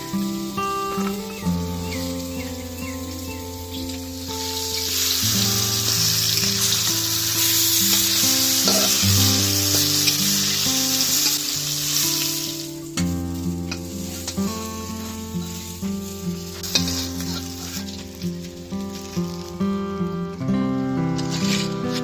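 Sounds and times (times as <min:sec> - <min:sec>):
food sizzling in hot oil: 0:00.0 - 0:20.4, 0:21.0 - 0:22.0
soft background music: 0:00.0 - 0:22.0.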